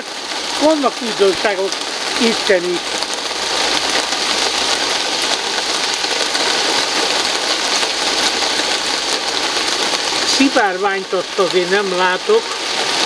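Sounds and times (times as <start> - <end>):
rain falling on trees and grass: 0.0 - 13.0.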